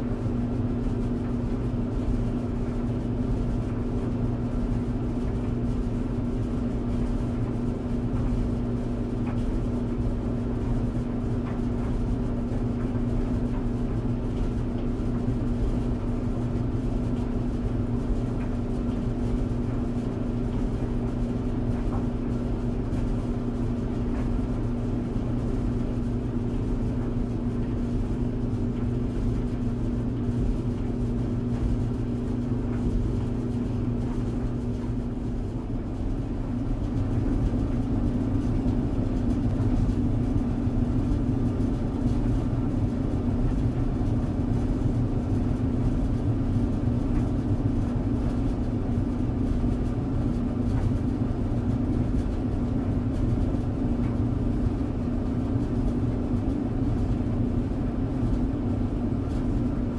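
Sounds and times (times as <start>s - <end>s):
tumble dryer running: 0.0s - 59.9s.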